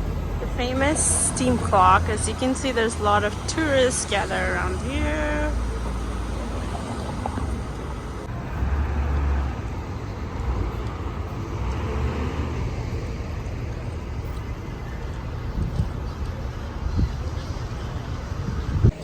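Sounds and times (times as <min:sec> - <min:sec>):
passing vehicle rumble: 0:00.0 - 0:19.0
road traffic: 0:00.0 - 0:19.0.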